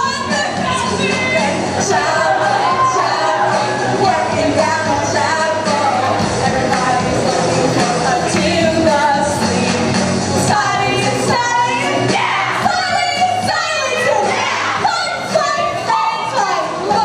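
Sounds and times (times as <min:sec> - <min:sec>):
pop music with singer: 0:00.0 - 0:17.0.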